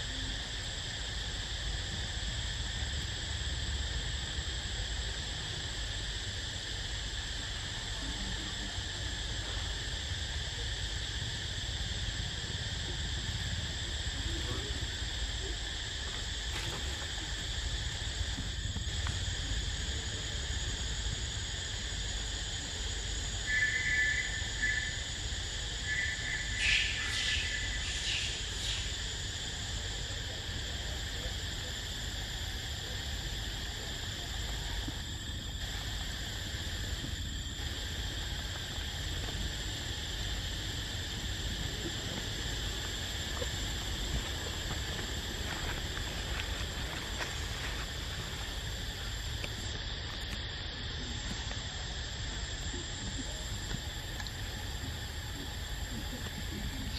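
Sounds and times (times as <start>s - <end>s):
high insect chorus: 0.0s - 56.9s.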